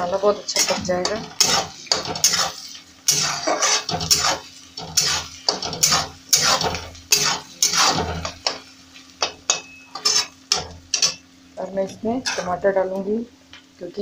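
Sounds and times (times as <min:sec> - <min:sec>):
spatula scraping frying onions: 0:00.0 - 0:12.8.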